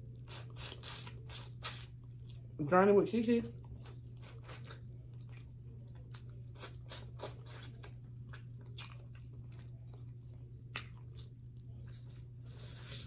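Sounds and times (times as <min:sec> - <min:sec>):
person chewing meat: 0:00.0 - 0:02.6, 0:03.5 - 0:13.0
steady low hum: 0:00.0 - 0:13.0.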